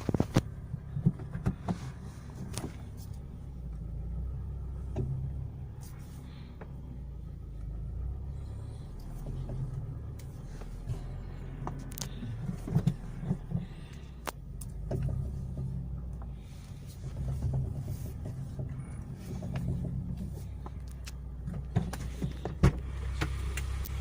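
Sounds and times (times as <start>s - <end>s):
suspension knocks and clicks: 0.0s - 5.6s, 8.3s - 24.0s
low engine hum: 0.0s - 24.0s.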